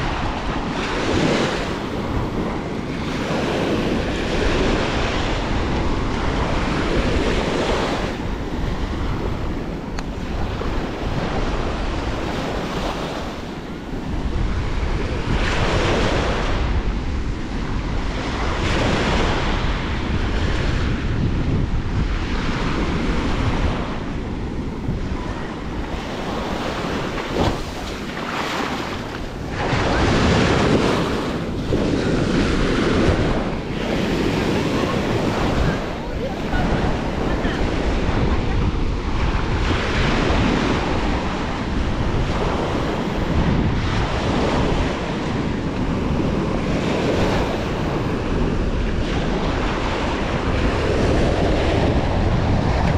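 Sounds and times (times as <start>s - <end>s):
small waves breaking on beach: 0.0s - 52.9s
wind rumbling on microphone: 0.0s - 52.9s.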